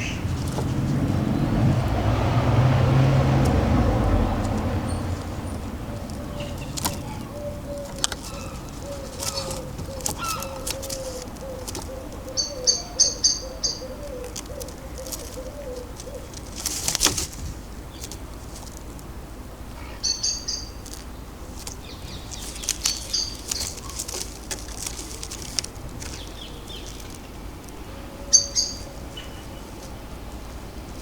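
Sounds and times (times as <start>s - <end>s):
wingbeats: 0.0s - 19.0s, 19.7s - 30.1s
small birds chirping: 0.0s - 31.0s
vehicle rumble: 0.0s - 31.0s.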